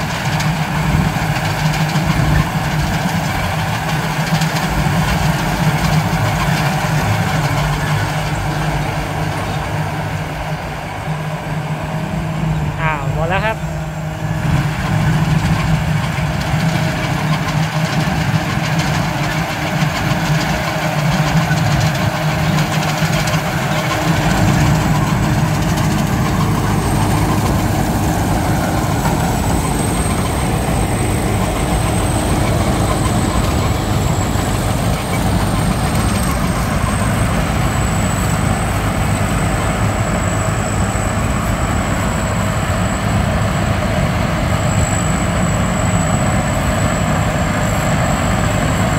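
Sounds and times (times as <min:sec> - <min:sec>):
combine harvester engine running: 0:00.0 - 0:48.9.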